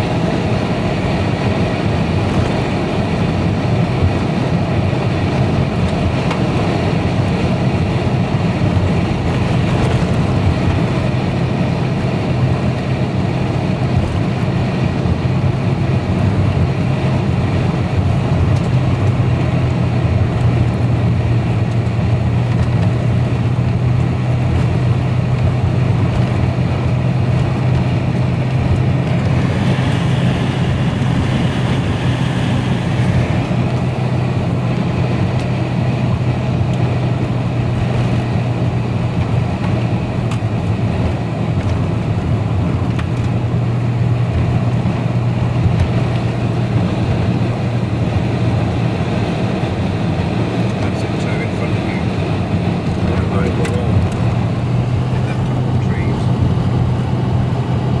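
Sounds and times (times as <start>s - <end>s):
car engine and tyre drone: 0.0s - 58.0s
constant low hum: 0.0s - 58.0s.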